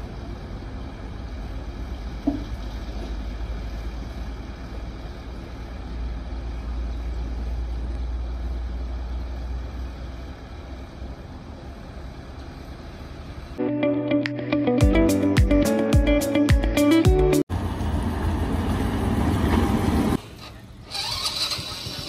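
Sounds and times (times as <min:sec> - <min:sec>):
diesel engines rumbling: 0:00.0 - 0:22.0.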